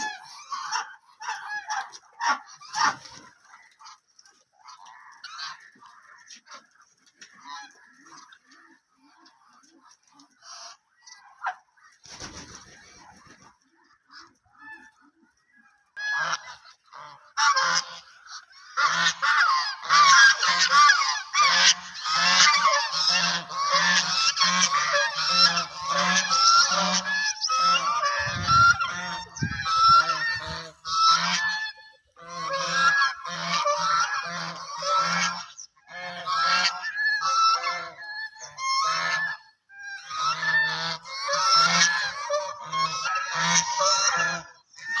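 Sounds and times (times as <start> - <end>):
ducks quacking: 0.0 - 45.0.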